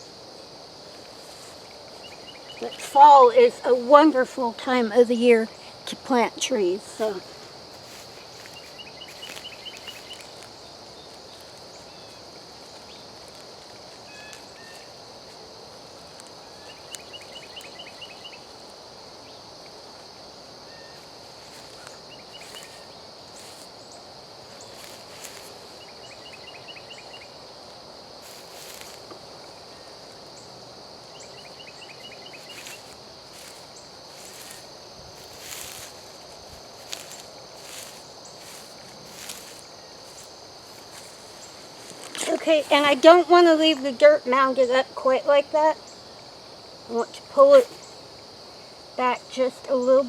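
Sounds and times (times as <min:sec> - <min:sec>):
high-pitched insect chorus: 0:00.0 - 0:50.0
short rapid insect trill: 0:00.0 - 0:50.0.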